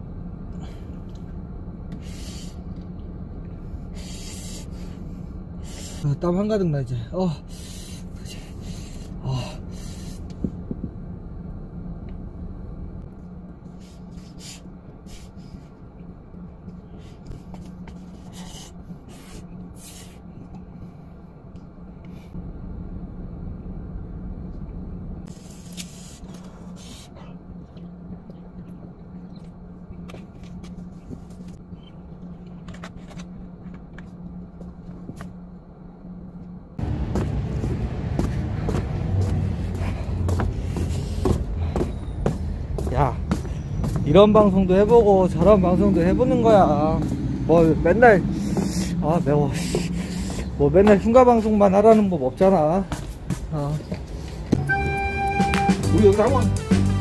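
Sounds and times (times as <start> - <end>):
low car cabin hum: 0.0 - 57.0.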